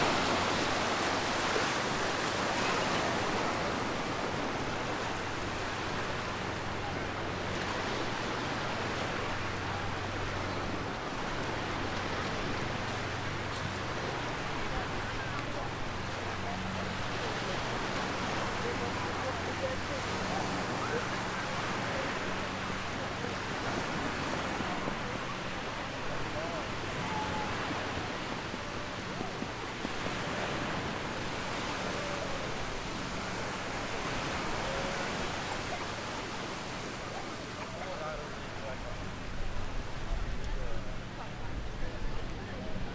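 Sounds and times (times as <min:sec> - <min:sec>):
faint distant voices: 0:00.0 - 0:42.9
surf washing on a beach: 0:00.0 - 0:42.9.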